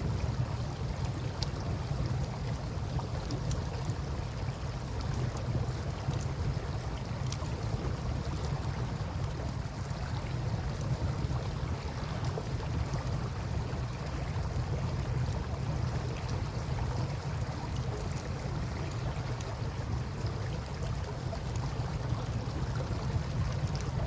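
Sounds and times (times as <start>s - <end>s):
campfire crackles: 0.0s - 24.0s
river water washing: 0.0s - 24.0s.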